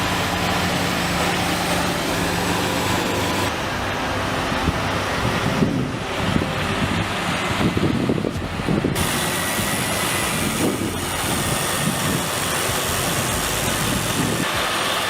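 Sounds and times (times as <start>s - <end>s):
heavy vehicle engines running: 0.0s - 15.0s
steady hiss: 0.0s - 15.0s.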